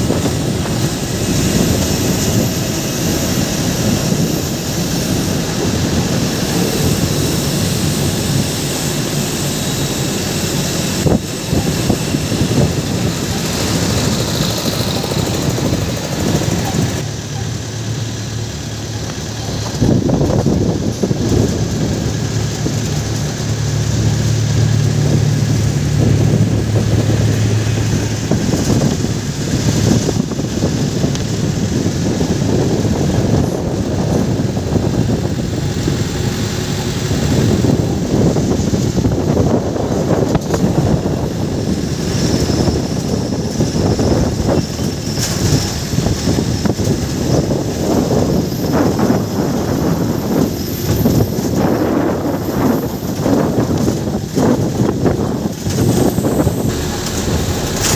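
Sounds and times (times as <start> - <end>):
engine running: 0.0 - 57.9
low hum: 0.0 - 57.9.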